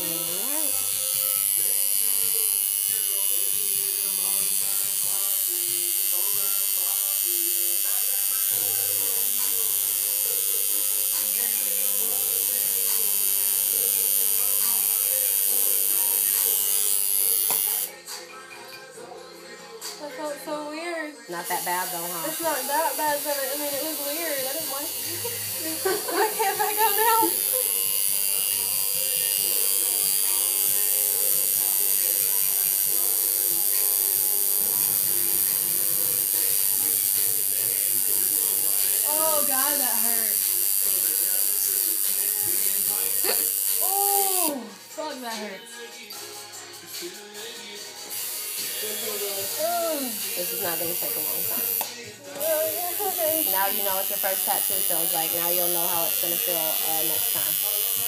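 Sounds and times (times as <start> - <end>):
tattoo machine buzzing: 0.0 - 18.0, 21.3 - 44.6, 48.0 - 58.0.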